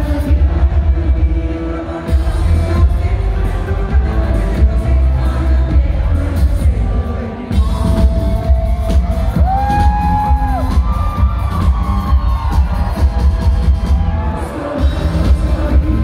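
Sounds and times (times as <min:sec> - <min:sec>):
live electropop band: 0:00.0 - 0:16.0
thumping bass beat: 0:00.0 - 0:16.0.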